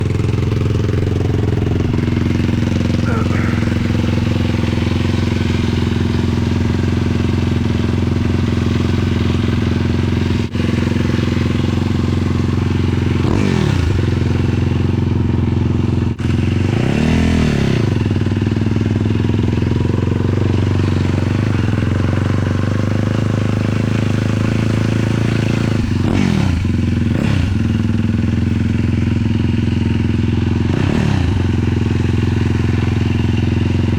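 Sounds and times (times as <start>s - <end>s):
quad engine running and revving: 0.0s - 33.9s.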